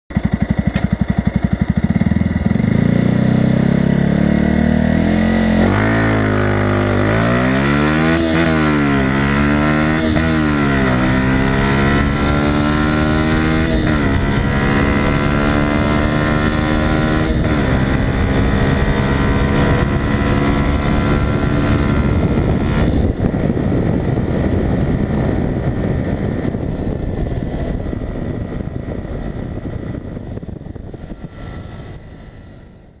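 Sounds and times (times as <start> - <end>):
motorcycle engine accelerating: 0.1 - 33.0.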